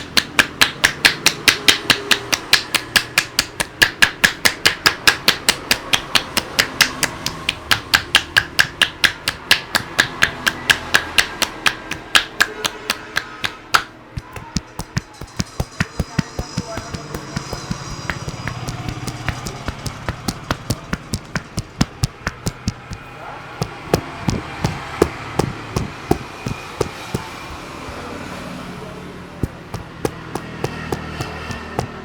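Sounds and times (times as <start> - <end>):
hands slapping a head: 0.0 - 28.2, 29.4 - 32.0
street background hum: 0.0 - 32.0.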